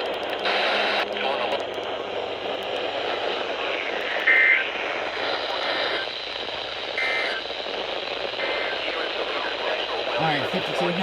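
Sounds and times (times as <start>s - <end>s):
radio hiss: 0.4s - 11.0s.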